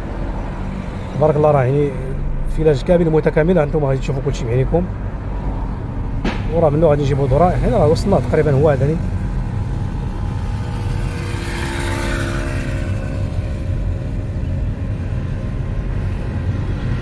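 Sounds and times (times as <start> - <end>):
car interior road drone: 0.0 - 17.0
faint engine hum: 0.0 - 17.0.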